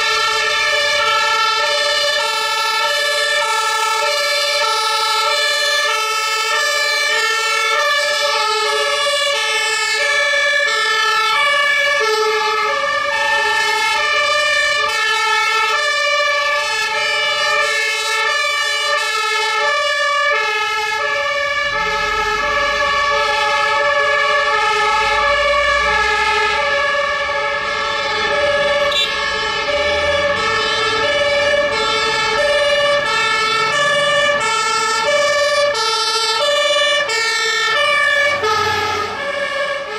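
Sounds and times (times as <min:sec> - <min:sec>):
two-tone fire engine sirens: 0:00.0 - 0:39.9.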